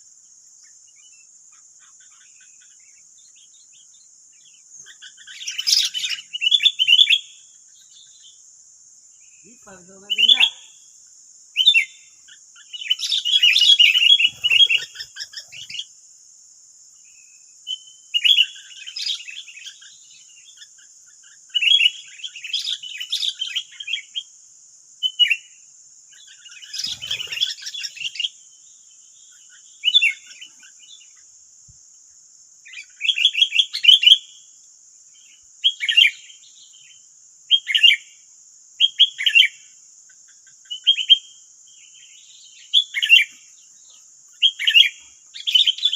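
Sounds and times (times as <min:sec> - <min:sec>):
bulbuls chirping: 0:00.0 - 0:24.4, 0:25.0 - 0:31.9, 0:38.8 - 0:45.9
steady high-pitched hiss: 0:00.0 - 0:45.9.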